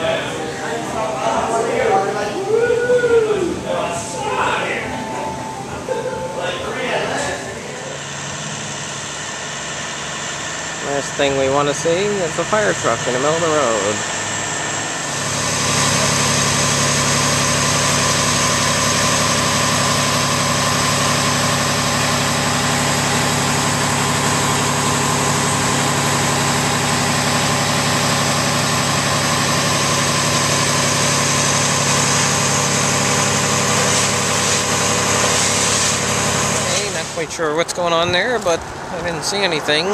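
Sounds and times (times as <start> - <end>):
fire truck engine idling: 7.3 - 39.8.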